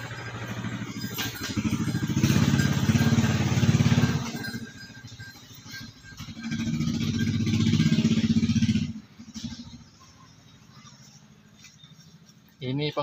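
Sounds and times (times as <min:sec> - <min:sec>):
small engine running: 0:00.0 - 0:12.3.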